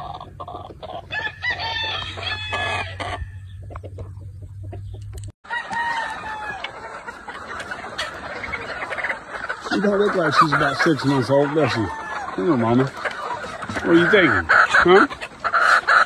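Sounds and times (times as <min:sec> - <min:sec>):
roosters crowing: 0:00.0 - 0:03.8, 0:05.4 - 0:16.0
chickens clucking: 0:00.0 - 0:16.0.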